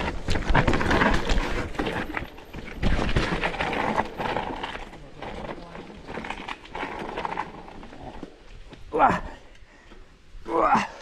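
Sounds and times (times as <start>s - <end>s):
mountain bike rattling over rocks: 0.0s - 9.0s.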